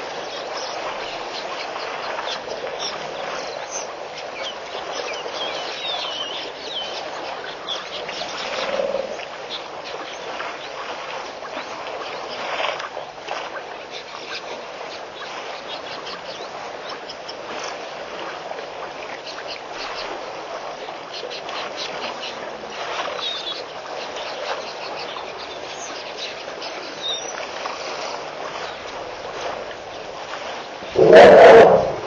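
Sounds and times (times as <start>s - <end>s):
splashing and trickling water: 0.0s - 32.0s.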